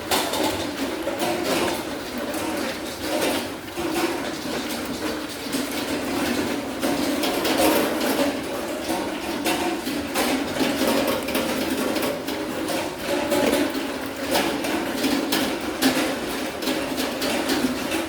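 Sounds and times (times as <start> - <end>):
pig chewing feed: 0.0 - 18.0.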